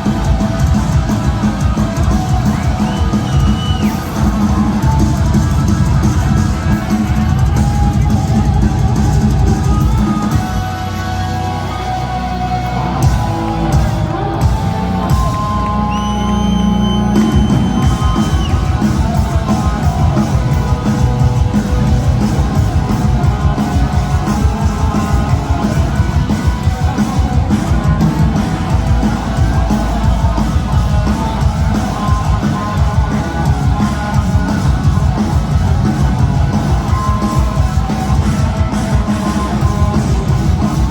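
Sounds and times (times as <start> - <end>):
live heavy metal band: 0.0 - 40.9.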